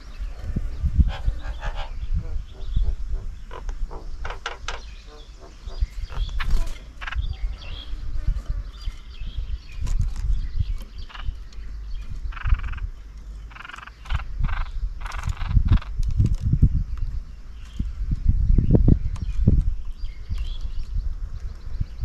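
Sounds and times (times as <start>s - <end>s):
harsh rasping bird calls: 0.0s - 18.0s
wind rumble on microphone: 0.0s - 22.0s.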